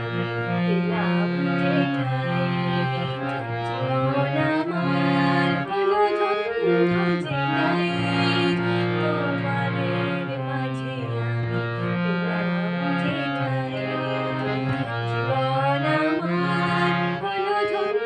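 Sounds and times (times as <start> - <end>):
harmonium: 0.0 - 18.0
woman singing: 0.5 - 18.0.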